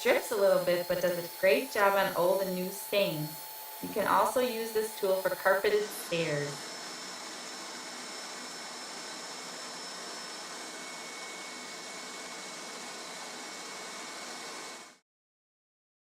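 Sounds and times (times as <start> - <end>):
carpet cleaner suction motor: 0.0 - 15.0.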